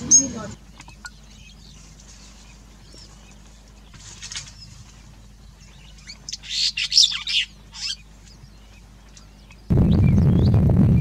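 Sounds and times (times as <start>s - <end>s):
bird chirping and chattering: 0.0s - 10.5s.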